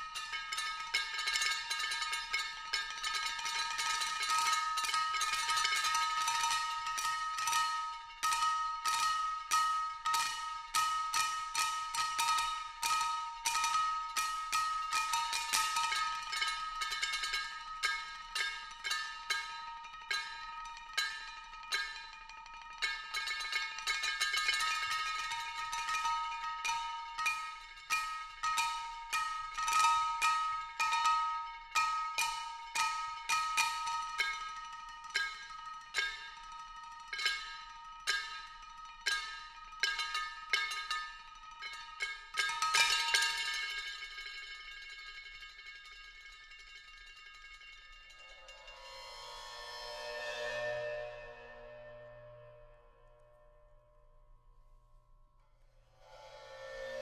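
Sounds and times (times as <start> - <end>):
metal percussion strokes ringing: 0.0 - 54.8, 56.0 - 57.0.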